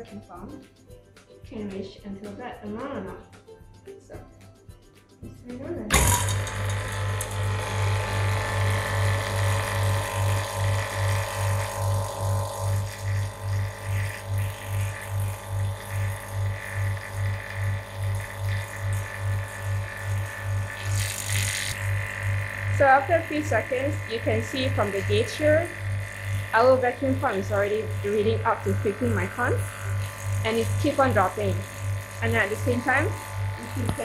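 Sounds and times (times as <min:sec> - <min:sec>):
vacuum pump pulsing hum: 0:05.9 - 0:34.0.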